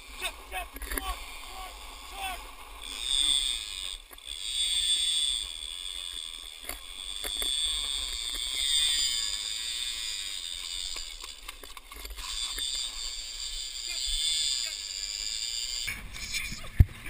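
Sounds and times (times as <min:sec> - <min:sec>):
fishing reel drag screaming: 0:00.0 - 0:16.7.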